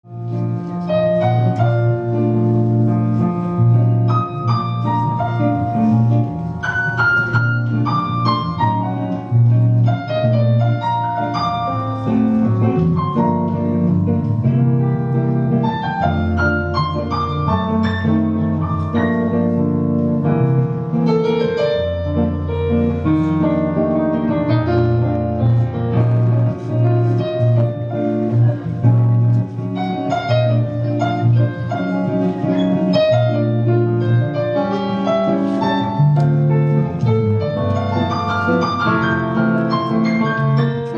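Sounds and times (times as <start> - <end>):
jazz piano keyboard: 0.0 - 40.9.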